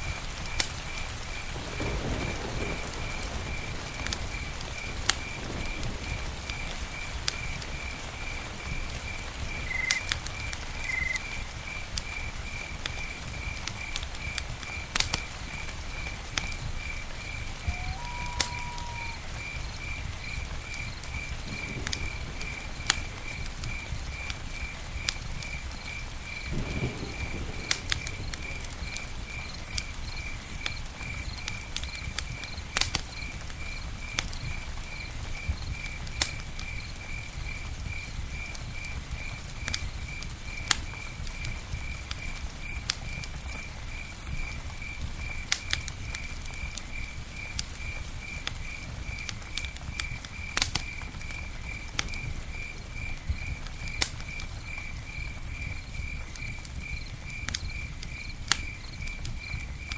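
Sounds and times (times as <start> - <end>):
campfire crackling: 0.0 - 59.9
cricket chirping: 0.0 - 59.9.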